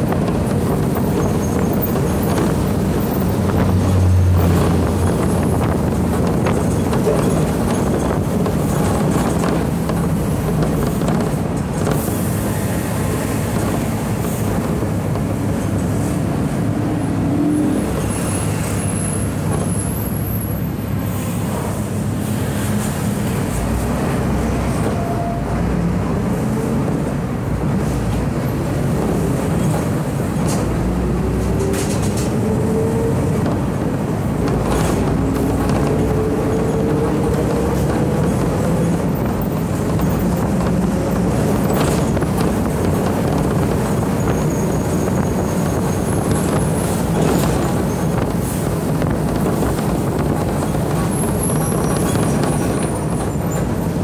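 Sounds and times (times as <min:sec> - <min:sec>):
bus diesel engine rumbling: 0:00.0 - 0:54.0
road noise: 0:00.0 - 0:54.0.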